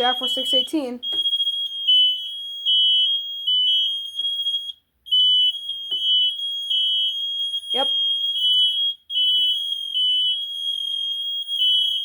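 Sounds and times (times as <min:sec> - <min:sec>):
smoke alarms beeping shrilly: 0:00.0 - 0:12.0.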